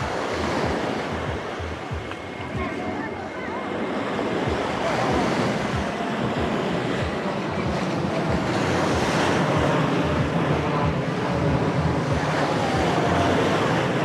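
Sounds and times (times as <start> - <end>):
sea waves washing onto shore: 0.0 - 14.0
wind buffeting microphone: 0.0 - 14.0.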